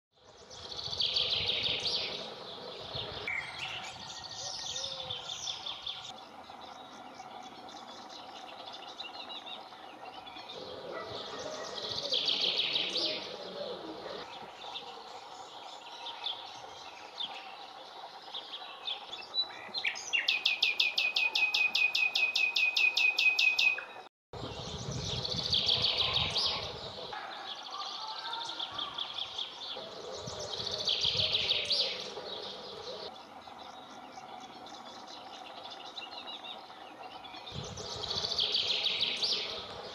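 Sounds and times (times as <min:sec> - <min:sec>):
nightingale singing: 0:00.5 - 0:39.9.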